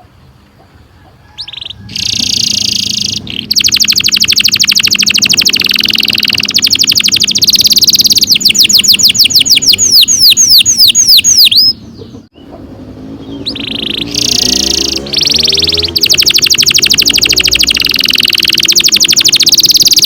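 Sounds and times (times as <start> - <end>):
canary singing a trill: 1.2 - 20.0.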